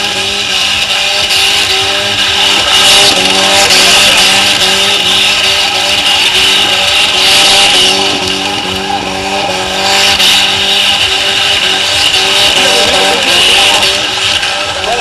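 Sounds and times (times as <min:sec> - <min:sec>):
car engine revving high: 0:00.0 - 0:15.0
wheels spinning on loose dirt: 0:00.0 - 0:15.0.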